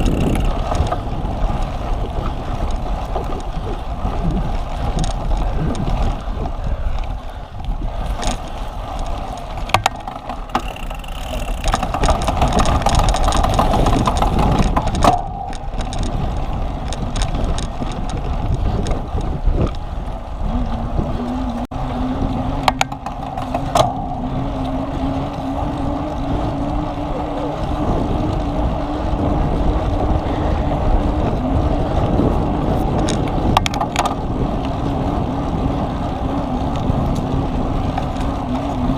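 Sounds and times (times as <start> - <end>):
bicycle clicks and rattles: 0.0 - 38.9
bicycle rolling over rough ground: 0.0 - 38.9
wind rush: 0.0 - 38.9.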